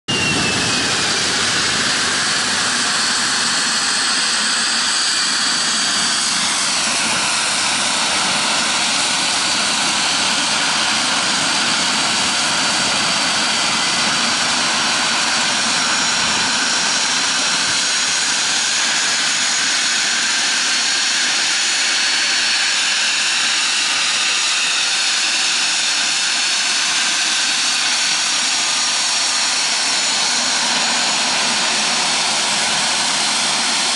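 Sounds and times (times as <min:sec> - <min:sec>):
jet engine rushing hiss: 0:00.1 - 0:33.9
jet engine whine: 0:00.1 - 0:33.9.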